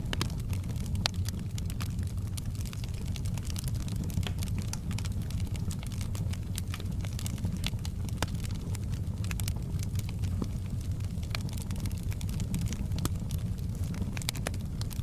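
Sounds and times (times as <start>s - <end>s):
low rumble of burning logs: 0.0s - 15.0s
wood fire crackling: 0.0s - 15.0s.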